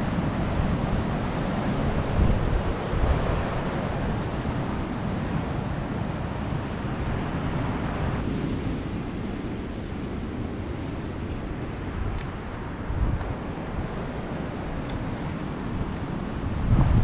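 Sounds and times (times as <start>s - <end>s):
ocean surf on shore: 0.0s - 17.0s
wind buffeting microphone: 0.0s - 17.0s.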